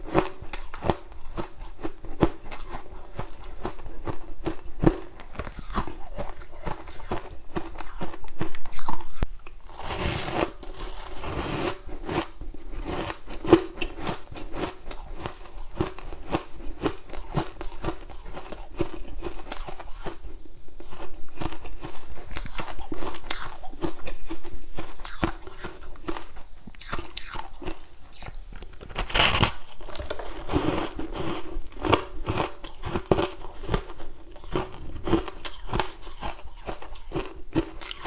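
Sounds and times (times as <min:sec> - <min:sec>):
person crunching ice: 0:00.1 - 0:20.2, 0:26.8 - 0:38.0.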